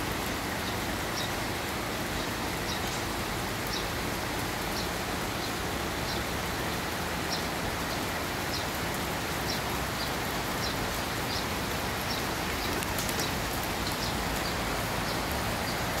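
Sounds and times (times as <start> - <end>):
rain on wet paving: 0.0 - 16.0.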